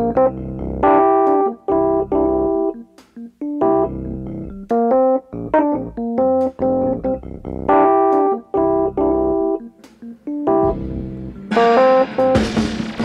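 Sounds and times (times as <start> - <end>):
piano-like keyboard chords: 0.0 - 13.0.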